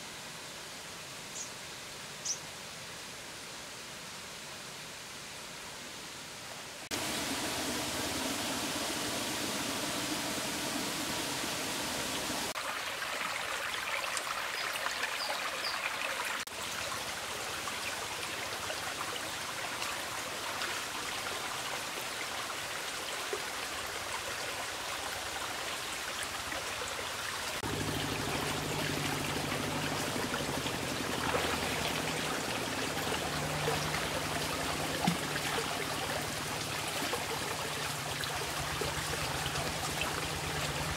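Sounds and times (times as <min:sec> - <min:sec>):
stream running over rocks: 0:06.8 - 0:40.9.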